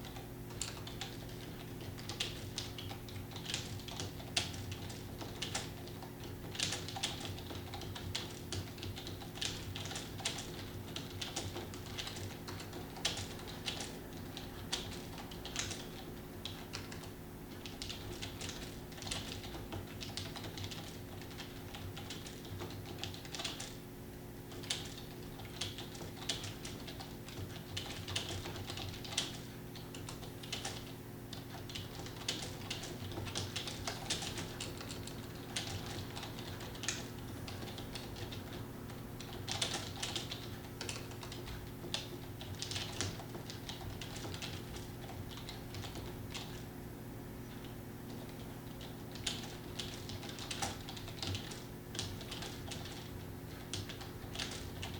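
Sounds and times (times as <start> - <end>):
computer keyboard typing: 0.0 - 46.8, 47.4 - 54.9
low electrical hum: 0.0 - 54.9.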